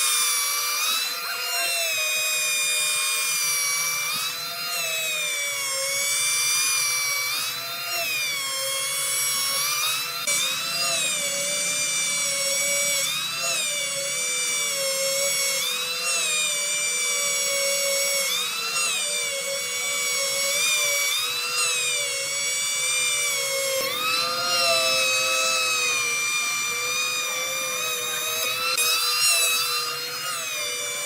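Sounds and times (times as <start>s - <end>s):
power tool whining: 0.0s - 31.0s.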